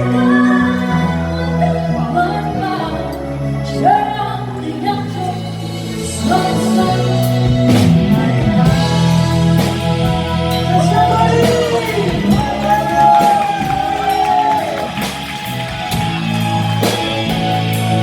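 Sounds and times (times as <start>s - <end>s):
lead melody with bending notes: 0.0s - 18.0s
pop-rock instrumental: 0.0s - 18.0s.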